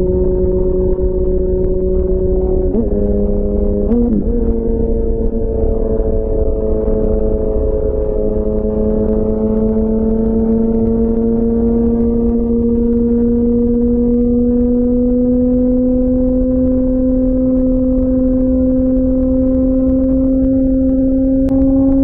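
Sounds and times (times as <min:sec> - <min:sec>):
motorcycle engine revving: 0:00.0 - 0:22.0
wind noise: 0:00.0 - 0:22.0.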